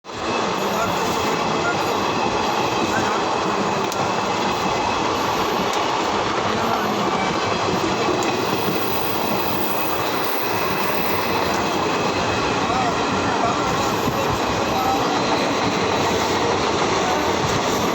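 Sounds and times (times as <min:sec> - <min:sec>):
train wheels on rails: 0:00.1 - 0:17.9.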